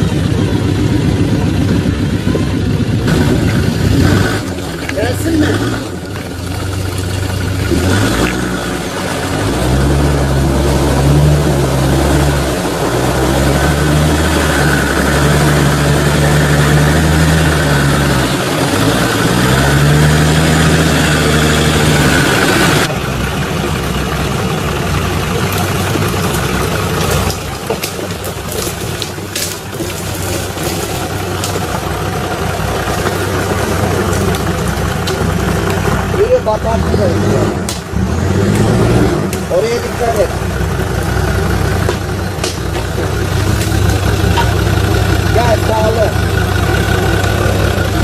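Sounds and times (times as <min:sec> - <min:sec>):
off-road vehicle engine revving: 0:00.0 - 0:48.0.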